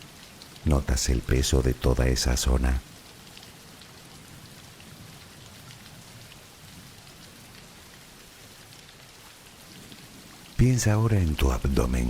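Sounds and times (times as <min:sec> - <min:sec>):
soft rain on a surface: 0:00.0 - 0:12.0.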